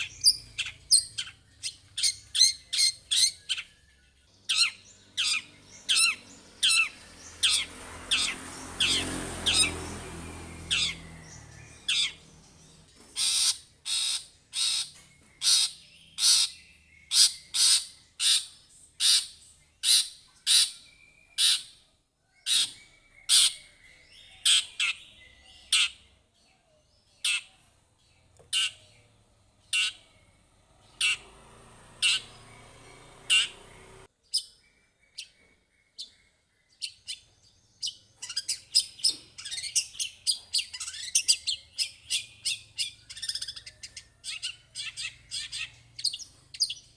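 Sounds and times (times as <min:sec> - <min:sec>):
bird harsh scratchy calls: 0:00.0 - 0:03.7, 0:04.4 - 0:21.8, 0:22.4 - 0:23.8, 0:24.4 - 0:26.1, 0:27.2 - 0:27.6, 0:28.5 - 0:28.9, 0:29.6 - 0:34.1, 0:38.2 - 0:46.9.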